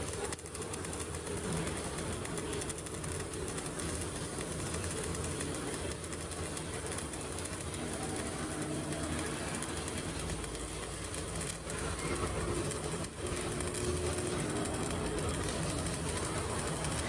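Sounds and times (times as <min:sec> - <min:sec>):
welding arc crackling buzz: 0:00.0 - 0:17.0.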